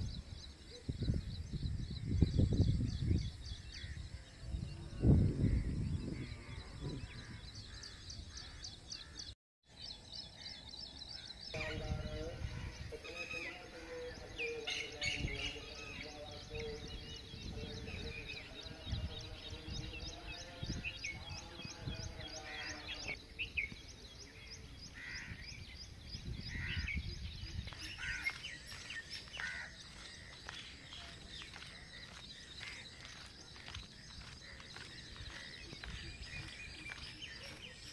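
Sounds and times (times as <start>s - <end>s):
birds calling: 0.0s - 37.9s.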